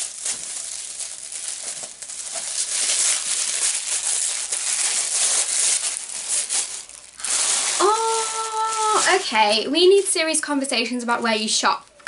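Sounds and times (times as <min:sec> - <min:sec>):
tissue paper crinkling: 0:00.0 - 0:10.1.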